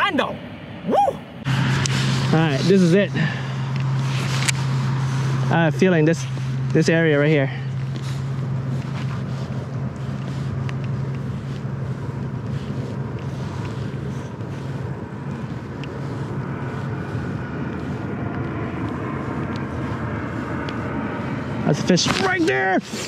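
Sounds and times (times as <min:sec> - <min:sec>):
rushing noise: 0:00.0 - 0:23.0
steady low hum: 0:00.0 - 0:23.0.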